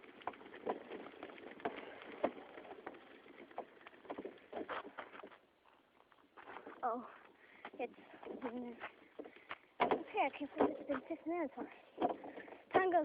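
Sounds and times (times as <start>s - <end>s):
bicycle rattling on bumpy trail: 0.0s - 13.0s.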